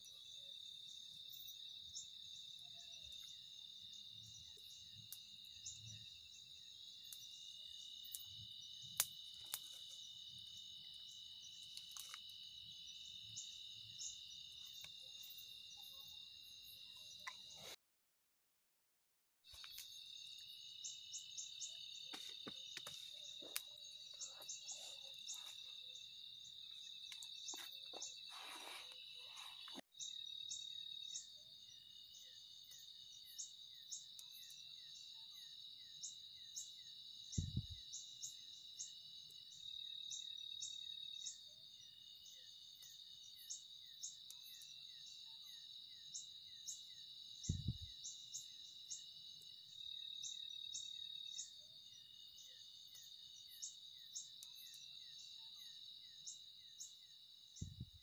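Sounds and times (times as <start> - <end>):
crickets chirping: 0.0 - 17.8, 19.5 - 58.0.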